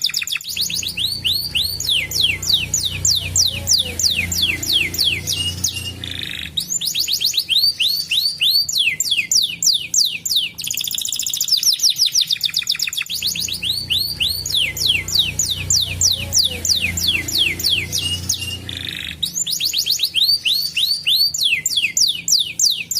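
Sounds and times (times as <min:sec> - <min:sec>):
canary singing: 0:00.0 - 0:22.9.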